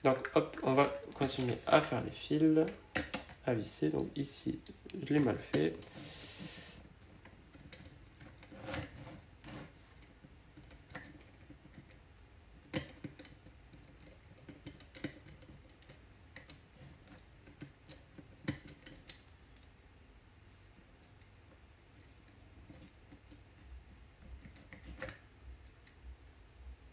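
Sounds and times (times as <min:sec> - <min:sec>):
faint handling clicks and taps: 0:00.0 - 0:12.0, 0:12.6 - 0:19.8, 0:20.5 - 0:26.4.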